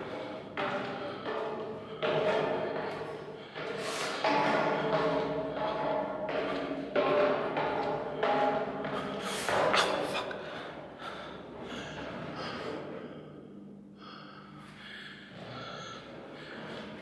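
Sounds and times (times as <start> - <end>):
man breathing hard: 0.0 - 7.0, 7.8 - 17.0.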